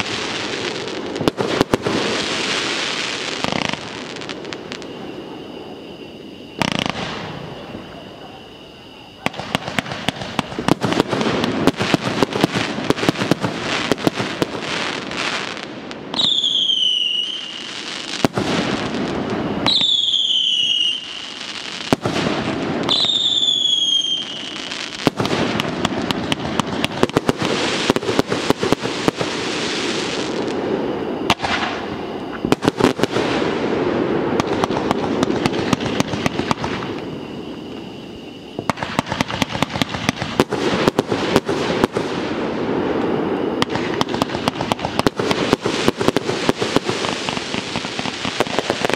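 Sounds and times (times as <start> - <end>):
falling firework whistles: 0.0 - 48.9
fireworks bangs and crackling: 0.0 - 48.9.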